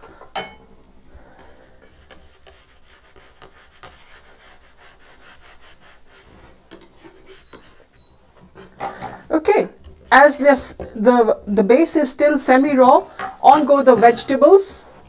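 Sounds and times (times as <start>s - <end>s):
spatula scraping frying pan: 1.3s - 15.0s.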